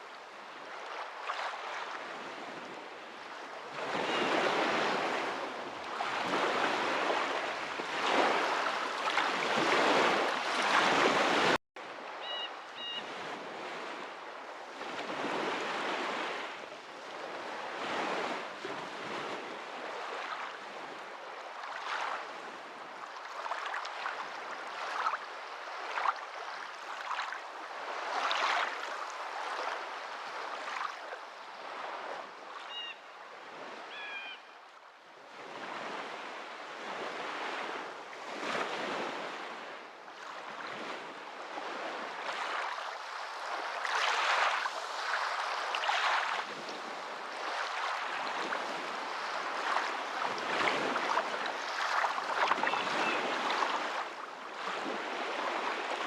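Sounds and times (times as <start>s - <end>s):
waves washing in: 0.0s - 32.8s, 35.2s - 56.0s.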